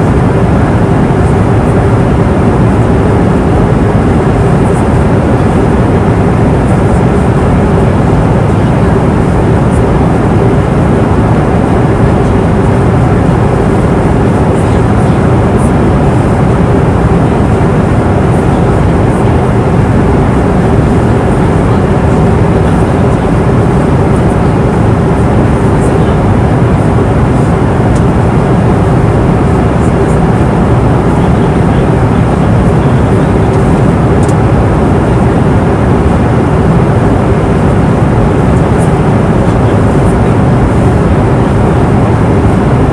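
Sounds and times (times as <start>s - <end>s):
airliner cabin noise: 0.0s - 42.9s.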